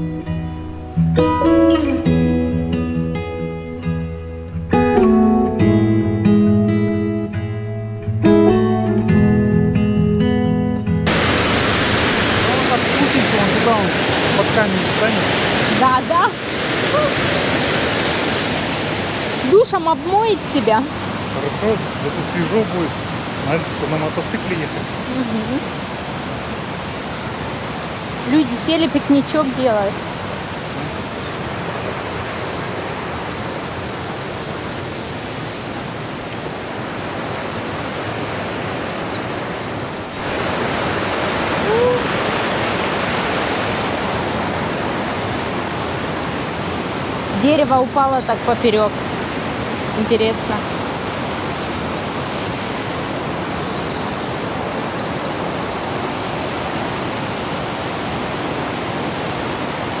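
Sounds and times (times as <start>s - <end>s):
rushing stream and waterfall: 0.0s - 60.0s.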